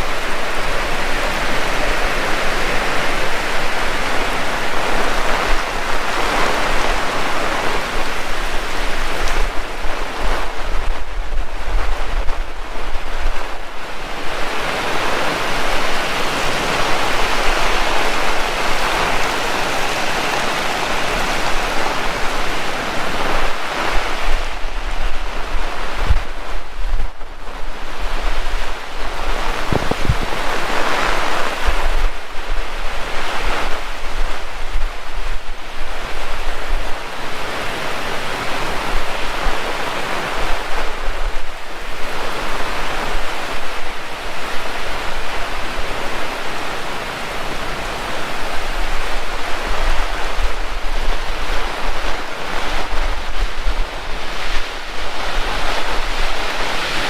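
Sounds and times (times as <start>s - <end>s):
heavy rain pouring: 0.0s - 57.0s
wind buffeting microphone: 0.0s - 57.0s.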